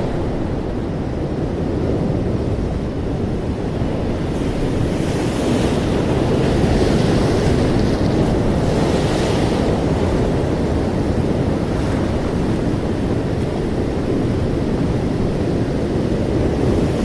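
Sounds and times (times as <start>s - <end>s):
ocean waves surf: 0.0s - 17.0s.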